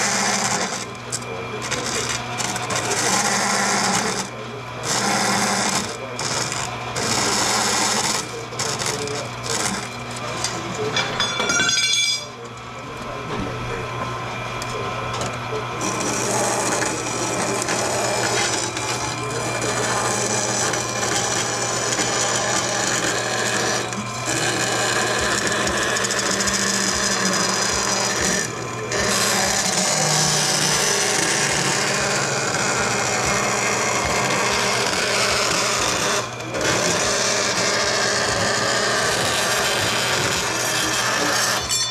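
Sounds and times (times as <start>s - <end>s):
saw blade rasping through metal: 0.0s - 12.4s, 15.7s - 41.9s
bandsaw motor hum: 0.0s - 41.9s.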